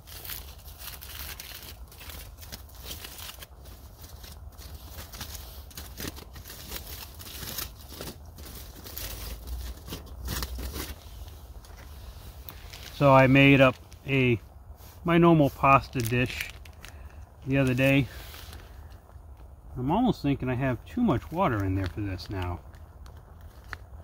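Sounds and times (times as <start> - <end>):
plastic and foil wrapping crinkling: 0.0 - 24.0.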